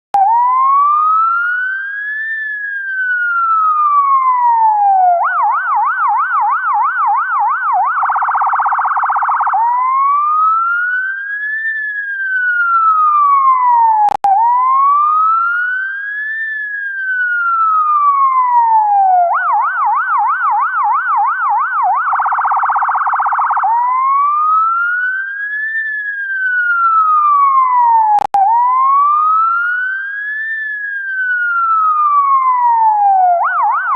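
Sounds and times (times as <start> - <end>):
ambulance siren: 0.1 - 33.9.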